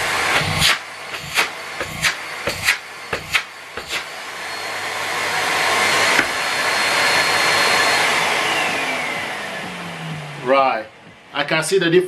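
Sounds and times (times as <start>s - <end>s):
vacuum cleaner motor whining: 0.0s - 11.4s.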